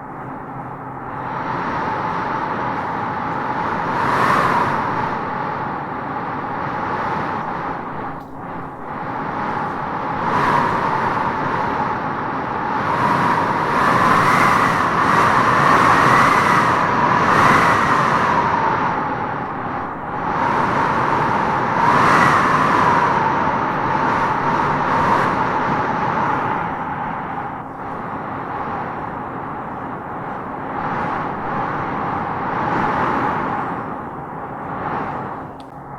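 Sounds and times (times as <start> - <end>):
howling wind gusts: 0.0 - 35.9.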